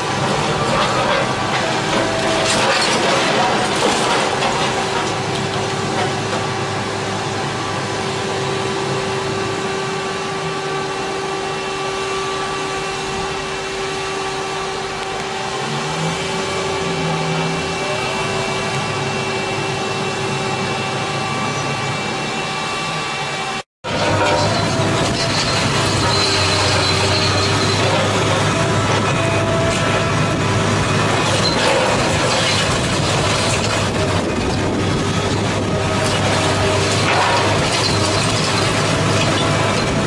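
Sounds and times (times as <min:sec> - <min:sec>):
excavator whining hum: 0:00.0 - 0:40.0.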